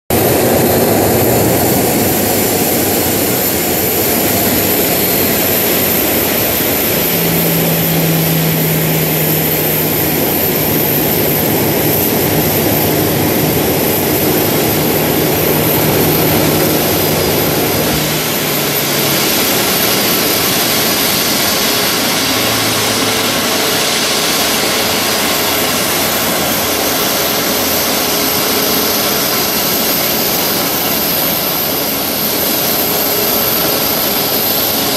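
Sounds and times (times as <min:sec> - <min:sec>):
jet engines rushing with whine: 0:00.1 - 0:34.9
low hum: 0:00.1 - 0:34.9.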